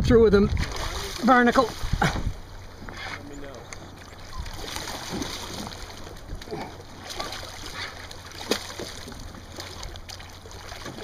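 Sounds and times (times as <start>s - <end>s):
water lapping against kayak hull: 0.1s - 11.0s
small water splashes: 0.4s - 11.0s.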